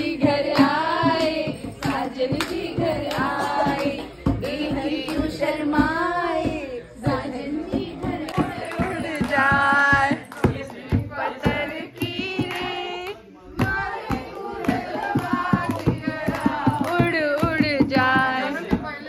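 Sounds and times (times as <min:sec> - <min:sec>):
group singing a song: 0:00.0 - 0:18.7
rhythmic hand clapping: 0:00.0 - 0:19.0.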